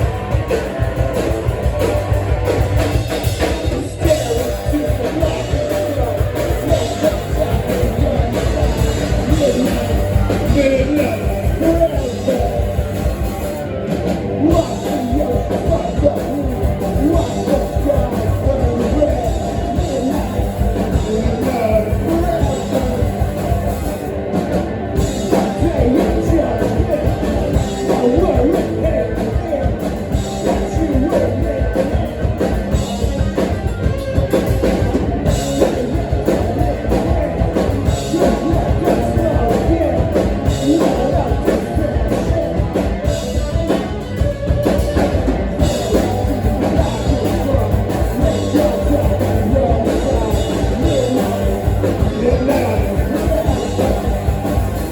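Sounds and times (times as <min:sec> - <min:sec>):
bass guitar: 0:00.0 - 0:54.9
distorted guitar: 0:00.0 - 0:54.9
drum kit: 0:00.0 - 0:54.9
person singing: 0:03.2 - 0:24.0, 0:25.0 - 0:54.9.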